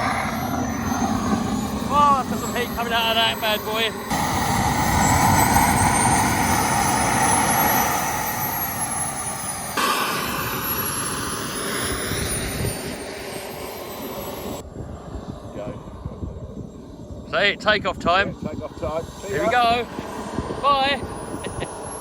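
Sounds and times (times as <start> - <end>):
high whine: 0.0 - 22.0
model jet turbine running: 0.0 - 22.0.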